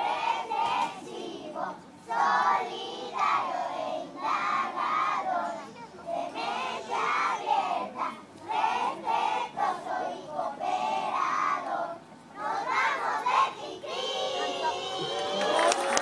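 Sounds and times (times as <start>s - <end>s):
young voices chanting in unison: 0.0s - 15.6s.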